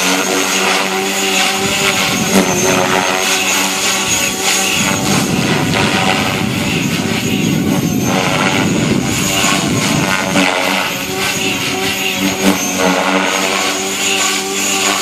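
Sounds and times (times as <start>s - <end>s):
model helicopter buzzing drone: 0.0s - 15.0s.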